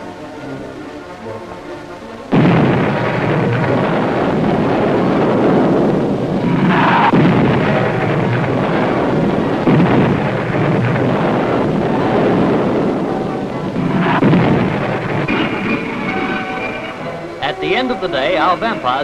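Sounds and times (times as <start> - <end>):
jet engine roar: 0.0 - 19.0
music: 0.0 - 19.0.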